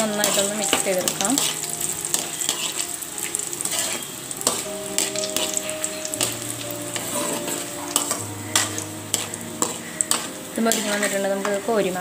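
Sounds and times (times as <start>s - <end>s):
metal ladle scraping pan: 0.0s - 11.6s
hot oil sizzling: 0.0s - 12.0s.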